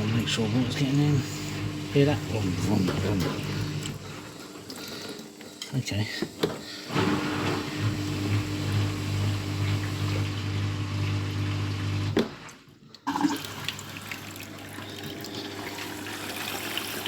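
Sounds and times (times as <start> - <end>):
washing machine pump hum: 0.0 - 17.0.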